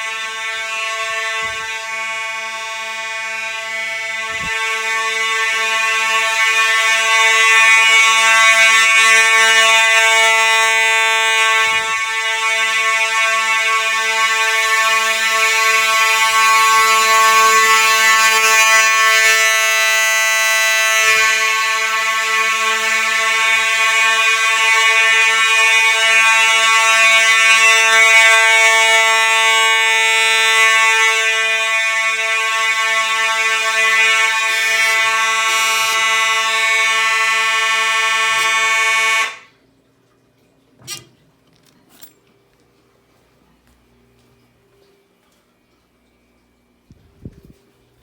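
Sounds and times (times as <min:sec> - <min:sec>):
fire alarm buzzy tone: 0:00.0 - 0:39.6.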